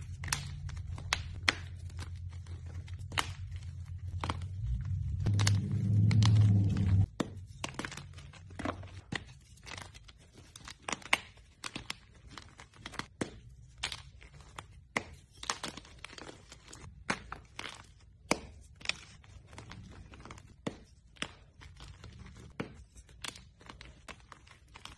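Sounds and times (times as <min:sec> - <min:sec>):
chalk blocks crackling and crunching: 0:00.0 - 0:24.9.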